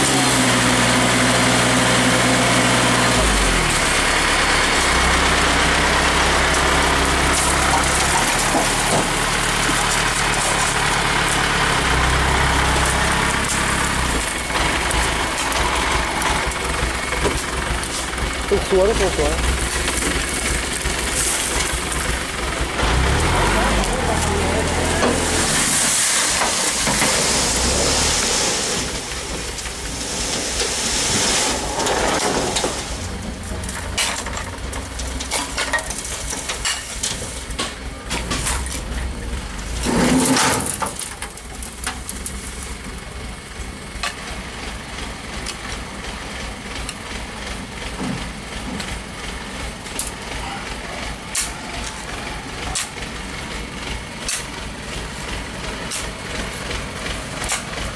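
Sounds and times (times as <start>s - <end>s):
soil pouring from truck bed: 0.0s - 57.9s
truck engine running: 0.0s - 57.9s.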